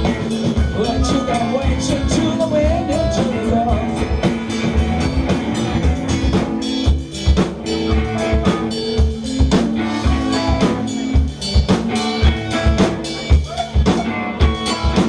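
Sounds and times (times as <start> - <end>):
droning bass: 0.0 - 15.0
drum kit kick beat: 0.0 - 15.0
electric guitar notes: 0.0 - 15.0.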